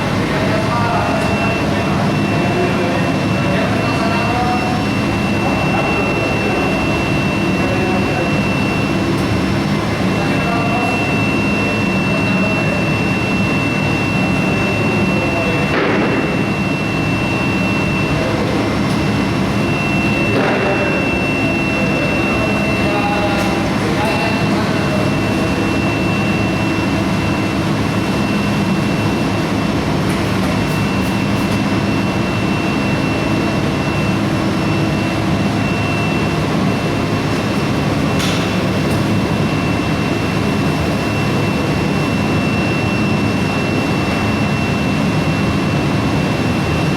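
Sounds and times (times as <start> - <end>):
high-pitched whine: 0.0 - 46.9
industrial furnace drone: 0.0 - 46.9.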